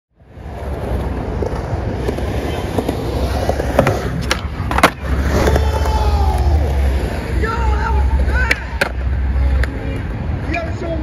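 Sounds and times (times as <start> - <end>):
skateboard wheels rolling on concrete: 0.2 - 11.0
skateboard clacks: 0.4 - 10.4.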